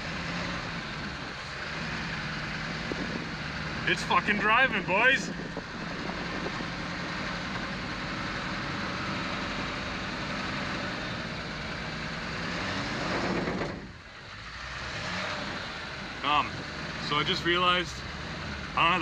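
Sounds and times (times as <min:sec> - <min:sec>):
diesel truck engine: 0:00.0 - 0:19.0
wind and road noise: 0:00.0 - 0:19.0.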